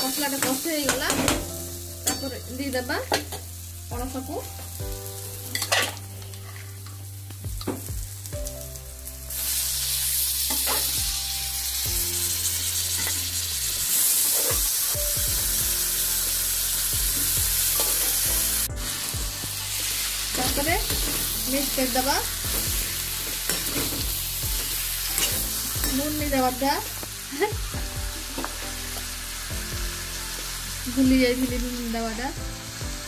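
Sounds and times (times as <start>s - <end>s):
loud sizzle in hot oil: 0.0s - 33.0s
spices frying in oil: 0.0s - 33.0s.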